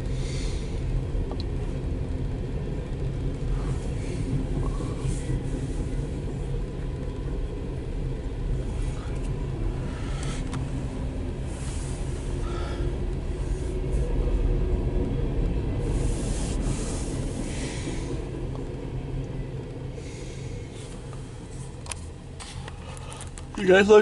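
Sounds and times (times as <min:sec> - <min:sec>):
muffled train cars rolling past: 0:00.0 - 0:24.0.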